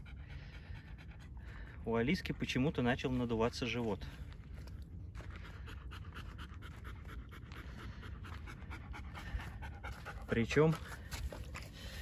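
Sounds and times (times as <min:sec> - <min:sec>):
dog panting: 0:00.0 - 0:03.8, 0:04.6 - 0:12.0.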